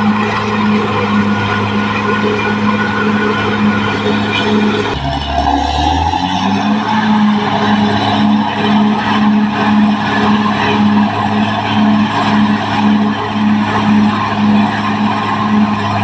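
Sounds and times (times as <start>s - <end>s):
bulldozer diesel engine under load: 0.0s - 16.0s
low pulsing throb: 0.0s - 16.0s
steel tracks grinding and squealing: 0.0s - 16.0s.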